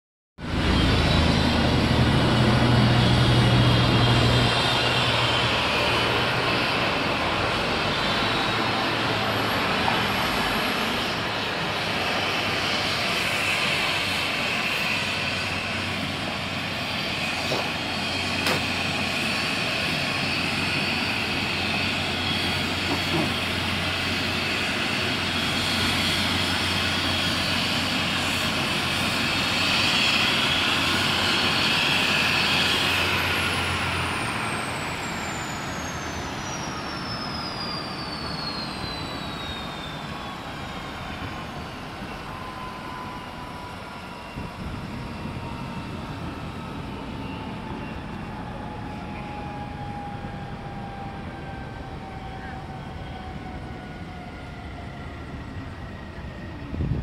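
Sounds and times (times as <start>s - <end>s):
helicopter turbine whine: 0.4s - 57.0s.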